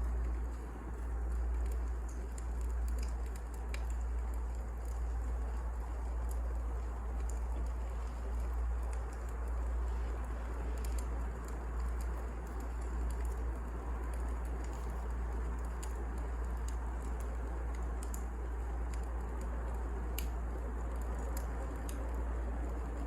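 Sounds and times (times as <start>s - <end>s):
firewood burning crackling: 0.0s - 23.0s.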